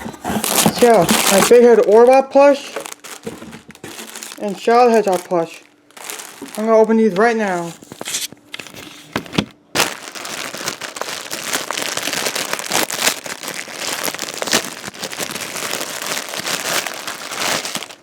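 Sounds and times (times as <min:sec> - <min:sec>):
packaging crinkling and tearing: 0:00.3 - 0:18.0.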